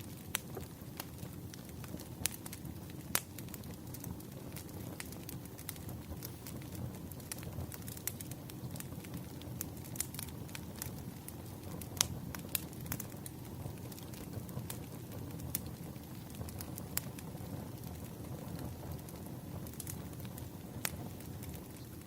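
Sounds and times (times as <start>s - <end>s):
firewood crackling and popping: 0.0s - 22.0s
low rumble of fire: 0.0s - 22.0s.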